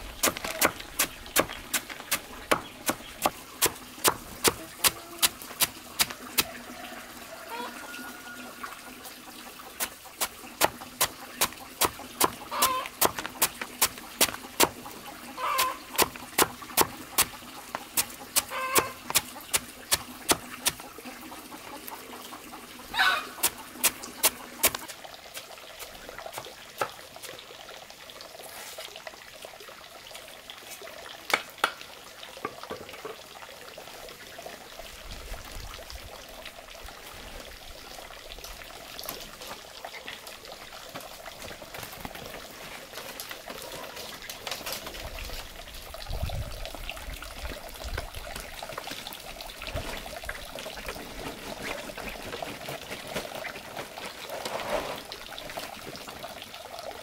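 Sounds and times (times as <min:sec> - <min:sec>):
water trickling and pouring: 0:00.0 - 0:57.0.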